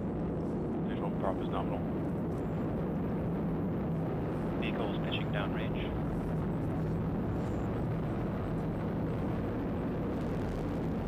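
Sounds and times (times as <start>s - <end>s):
rocket engines low rumble: 0.0s - 11.0s.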